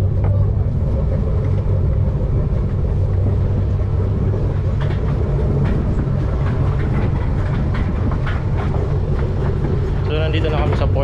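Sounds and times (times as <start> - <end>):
tugboat engine droning: 0.0 - 11.0.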